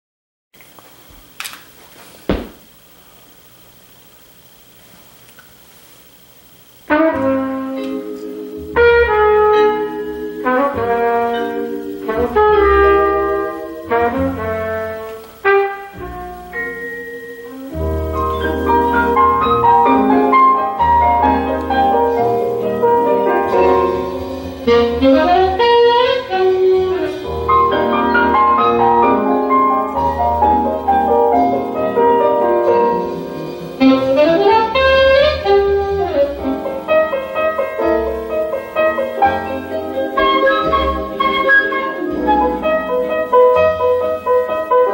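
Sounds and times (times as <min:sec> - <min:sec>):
vinyl record music with bass: 0:06.0 - 0:44.9.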